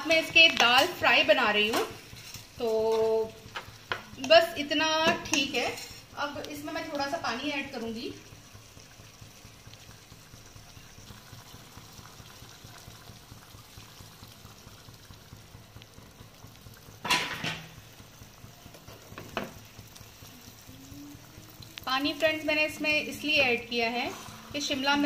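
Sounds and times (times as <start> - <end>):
curry bubbling and sizzling: 0.0 - 25.0.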